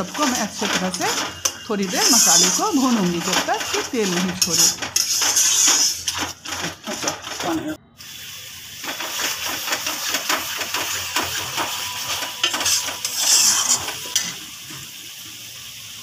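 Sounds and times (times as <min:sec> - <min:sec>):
paste sizzling in oil: 0:00.0 - 0:07.4, 0:08.0 - 0:16.0
spatula scraping metal pan: 0:00.0 - 0:07.6, 0:08.9 - 0:14.3.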